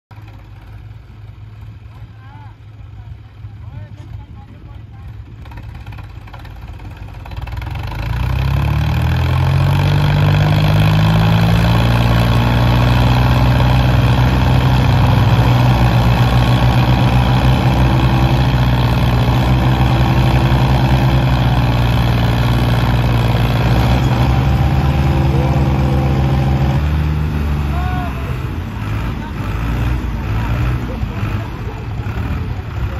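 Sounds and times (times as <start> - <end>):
tractor diesel engines revving: 0.2 - 32.9.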